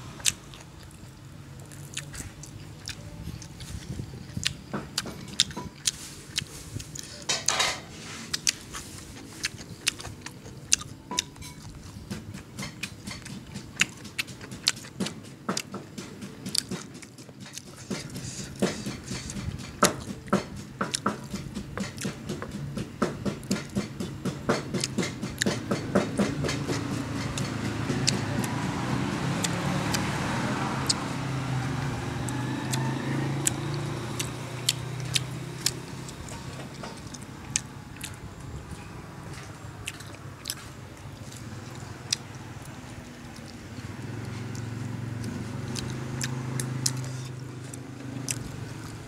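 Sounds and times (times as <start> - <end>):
vehicle engine hum: 0.0 - 49.0
wet chewing and biting: 0.2 - 49.0.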